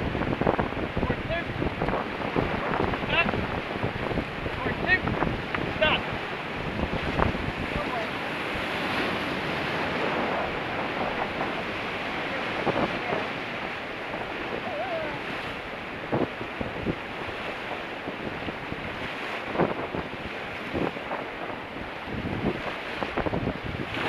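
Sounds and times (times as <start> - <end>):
whitewater rushing: 0.0 - 24.0.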